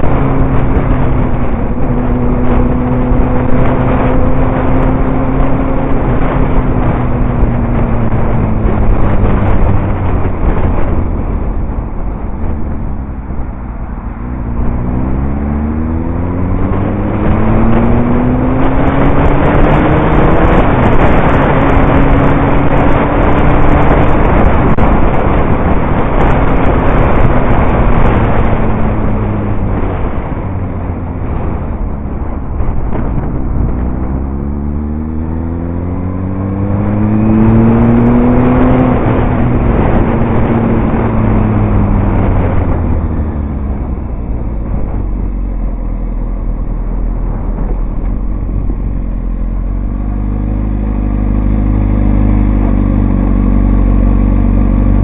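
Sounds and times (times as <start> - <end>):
motorcycle engine: 0.0 - 55.0
wind rush: 0.0 - 55.0.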